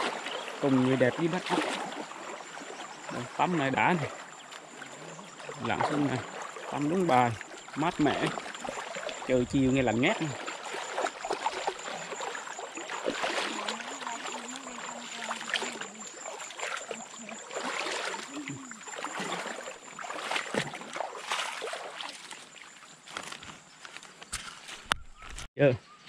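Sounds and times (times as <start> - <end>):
wading through water: 0.0 - 25.2.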